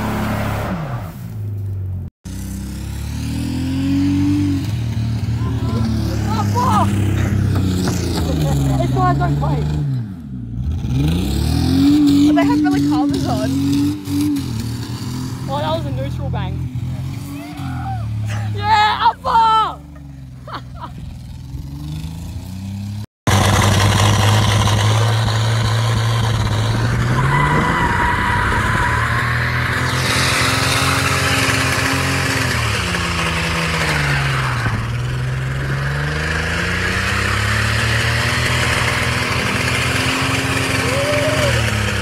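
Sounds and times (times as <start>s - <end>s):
car engine revving hard: 0.0s - 1.2s, 2.6s - 16.1s, 21.4s - 42.0s.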